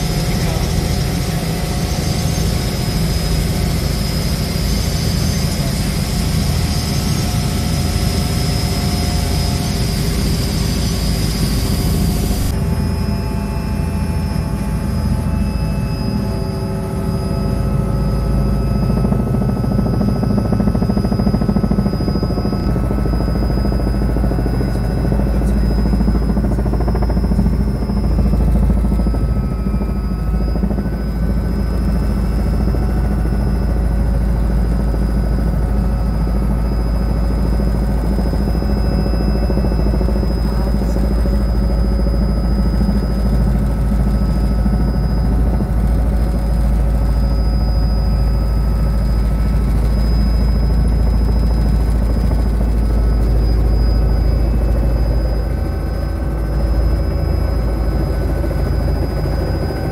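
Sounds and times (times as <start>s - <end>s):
helicopter engine and rotor drone: 0.0s - 59.9s
high whine: 0.0s - 59.9s.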